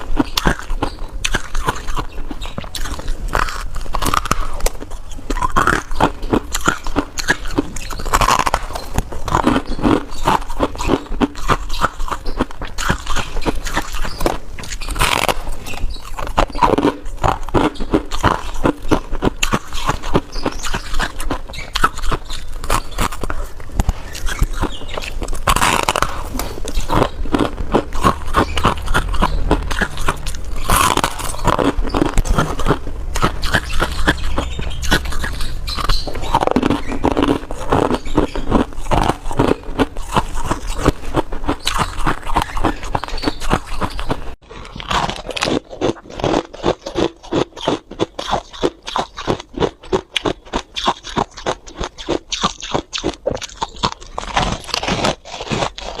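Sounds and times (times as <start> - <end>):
frost being chewed: 0.0 - 56.0.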